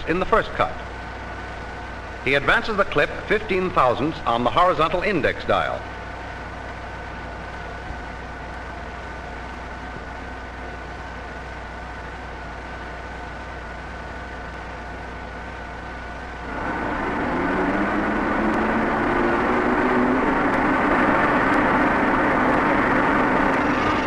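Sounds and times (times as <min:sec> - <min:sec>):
boring mill humming with high whine: 0:00.0 - 0:24.0.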